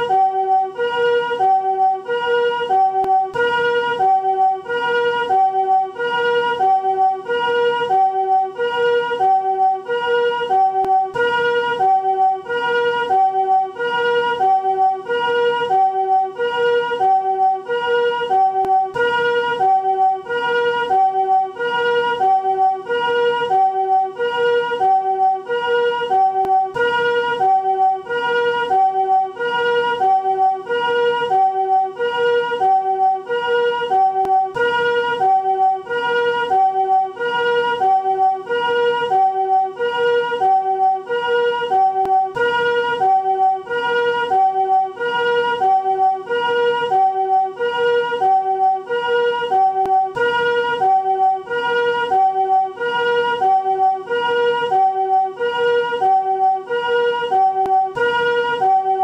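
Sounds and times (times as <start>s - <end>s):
two-tone ambulance siren: 0.0s - 59.0s.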